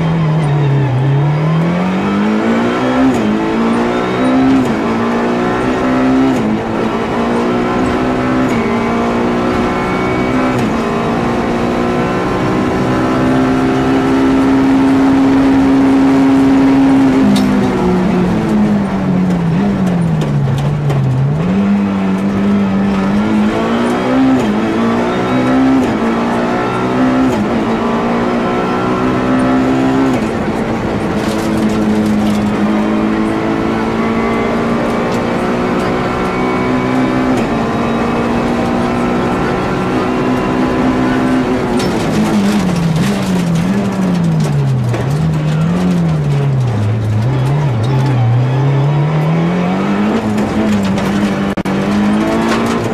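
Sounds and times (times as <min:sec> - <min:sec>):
car engine revving hard: 0:00.0 - 0:52.9.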